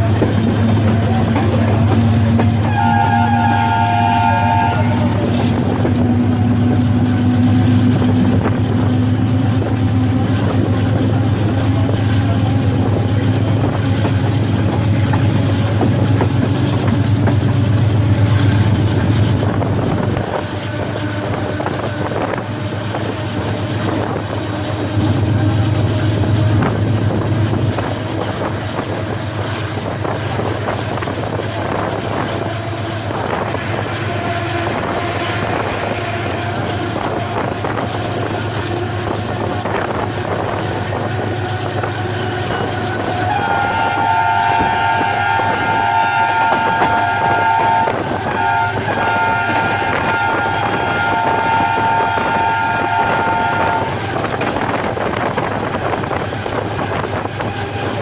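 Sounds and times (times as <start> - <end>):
diesel locomotive engine drone: 0.0 - 58.0
wind on microphone: 0.0 - 58.0.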